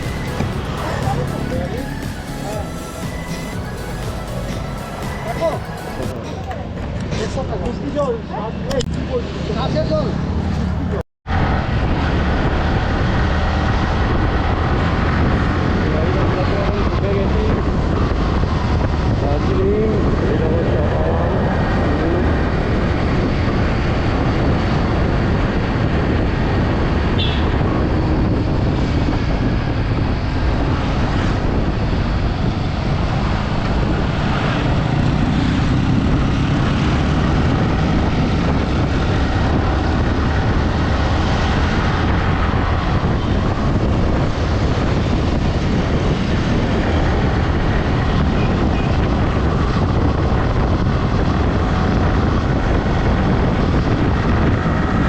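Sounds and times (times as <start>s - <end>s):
wind rush: 0.0s - 8.2s, 8.8s - 55.0s
motorcycle engine drone: 0.0s - 55.0s.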